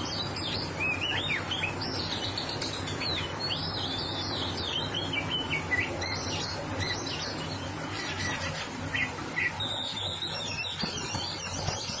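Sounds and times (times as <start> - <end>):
songbird singing whistled notes: 0.0 - 12.0.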